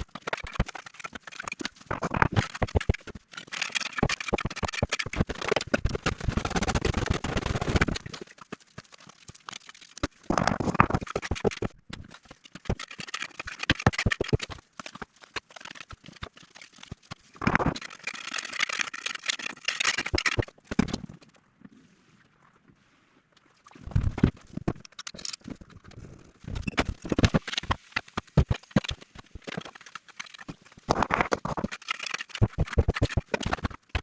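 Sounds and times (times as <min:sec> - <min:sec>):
knocks and clicks: 0:00.0 - 0:08.3, 0:10.0 - 0:21.2, 0:23.9 - 0:34.0.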